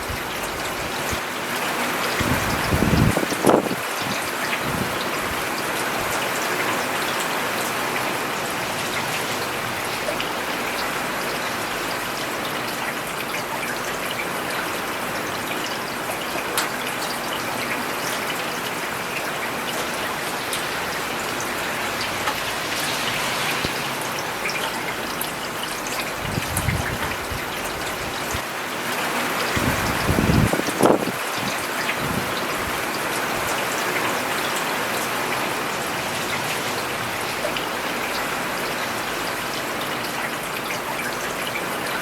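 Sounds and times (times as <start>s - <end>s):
rain on a road: 0.0s - 42.0s.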